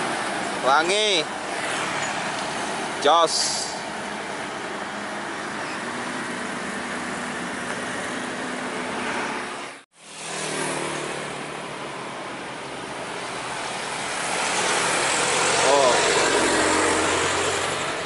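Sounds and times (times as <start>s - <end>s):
heavy vehicle engine: 0.0s - 18.0s
bus engine driving past: 1.4s - 18.0s.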